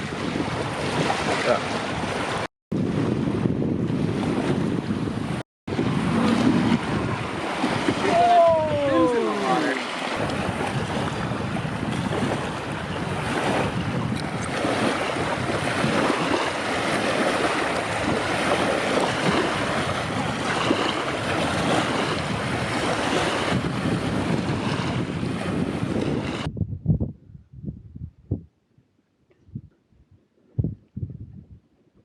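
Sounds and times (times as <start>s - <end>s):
strong wind on microphone: 0.0s - 28.6s, 29.4s - 32.0s.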